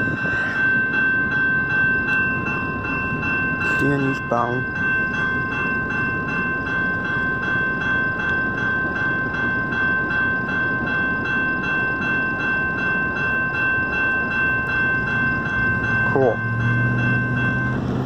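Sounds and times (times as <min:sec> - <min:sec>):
freight train rumbling past: 0:00.0 - 0:18.0
railroad crossing bell ringing: 0:00.0 - 0:18.0.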